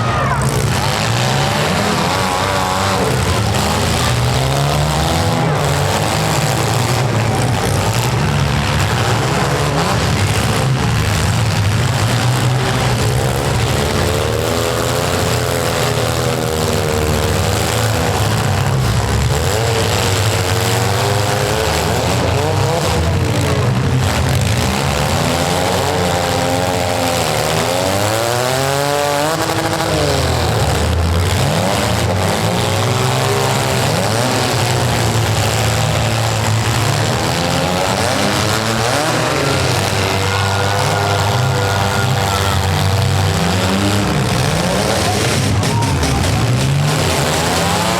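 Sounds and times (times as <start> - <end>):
car engines revving hard: 0.0 - 47.9.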